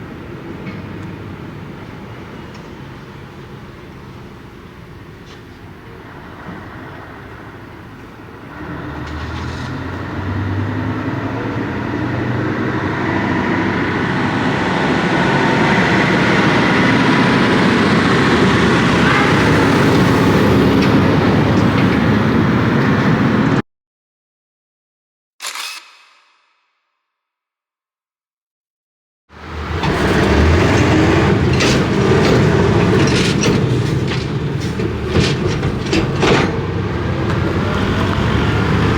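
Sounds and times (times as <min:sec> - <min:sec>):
heavy truck engine and tyres: 0:00.0 - 0:23.6, 0:29.3 - 0:38.9.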